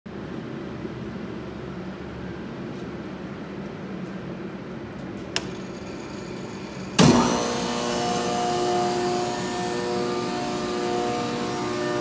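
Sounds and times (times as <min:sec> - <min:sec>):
machine shop hum: 0:00.1 - 0:12.0.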